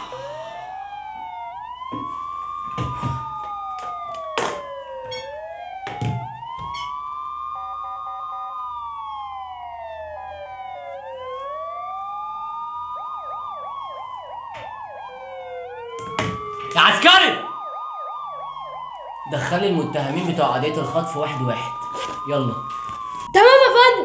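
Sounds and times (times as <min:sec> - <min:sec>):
police siren wailing: 0:00.0 - 0:24.0.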